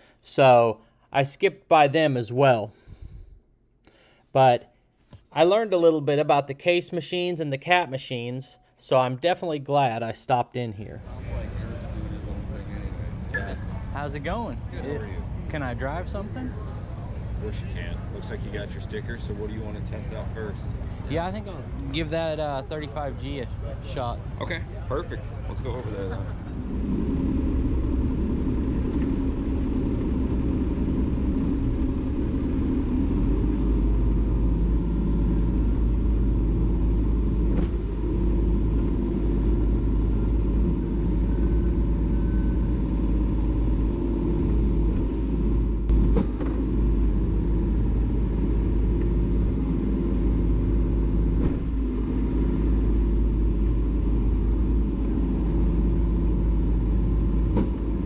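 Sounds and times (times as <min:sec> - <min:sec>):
excavator diesel engine rumble: 0:11.0 - 0:58.0.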